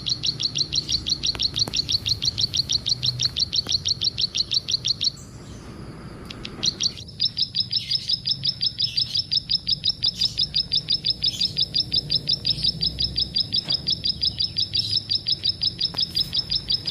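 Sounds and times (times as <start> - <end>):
bird calling high sharp notes: 0.0 - 16.9.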